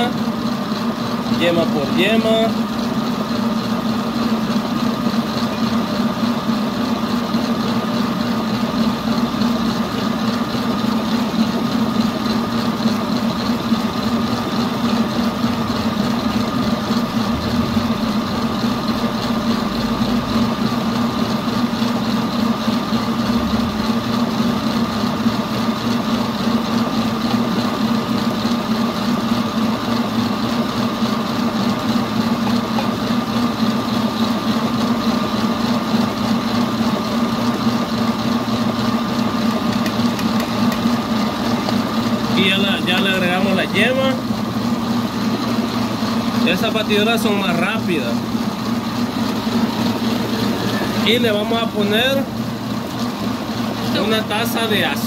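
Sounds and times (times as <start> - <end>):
electric mixer humming: 0.0 - 55.0.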